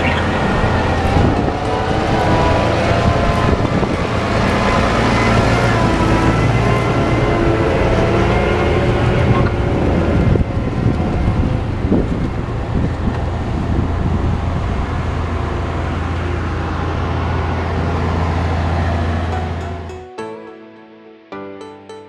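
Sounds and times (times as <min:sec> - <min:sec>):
tractor low rumble: 0:00.0 - 0:19.9.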